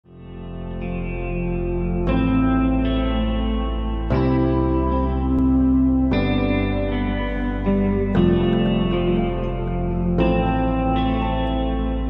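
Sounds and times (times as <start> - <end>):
electric guitar chords with echo: 0.0 - 12.0.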